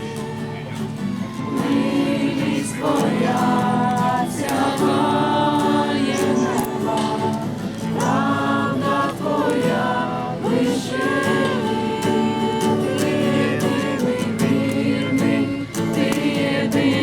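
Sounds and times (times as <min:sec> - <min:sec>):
group of people singing: 0:00.0 - 0:17.0.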